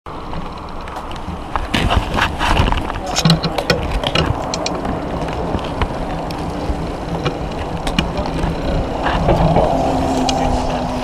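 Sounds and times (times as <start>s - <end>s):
bike clicks and rattles: 0.1s - 10.7s
bicycle tyre noise: 0.1s - 11.0s
wind rushing over microphone: 0.1s - 11.0s.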